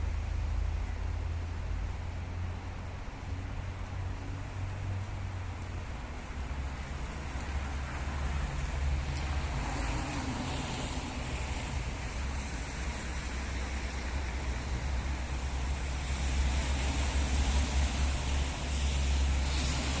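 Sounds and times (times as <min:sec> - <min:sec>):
distant traffic rumble: 0:00.0 - 0:20.0
rain hiss: 0:00.0 - 0:20.0.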